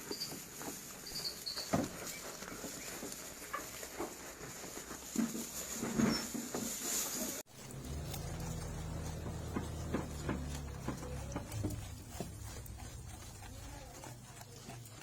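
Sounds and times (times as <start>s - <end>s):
sheep chewing grass: 0.0s - 15.0s.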